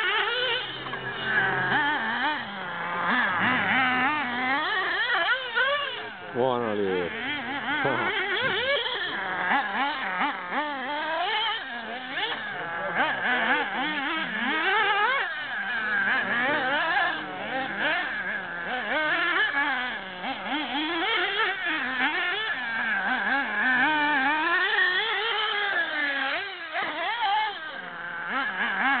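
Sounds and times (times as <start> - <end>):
nitro engine revving: 0.0 - 29.0.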